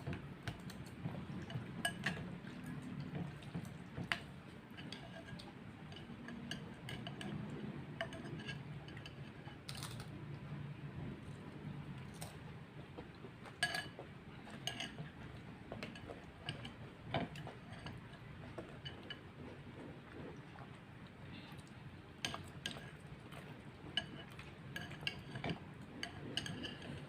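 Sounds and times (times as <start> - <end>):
cutlery clinking against bowl: 0.0 - 9.9, 13.4 - 20.5, 22.2 - 27.0.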